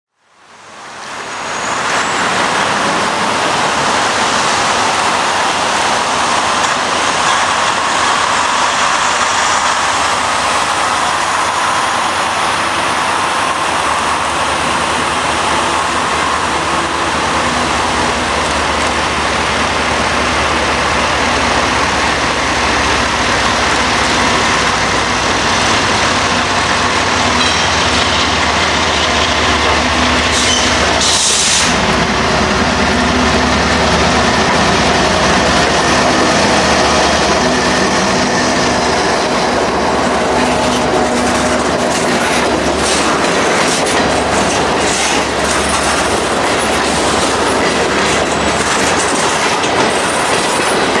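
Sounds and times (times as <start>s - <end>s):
diesel locomotive engine rumble: 0.4s - 51.0s.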